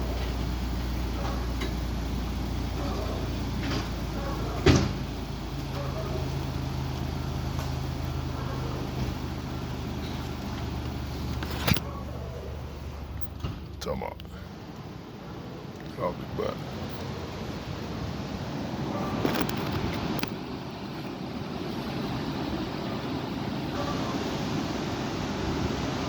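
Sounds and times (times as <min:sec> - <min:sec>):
steady low hum: 0:00.0 - 0:24.2.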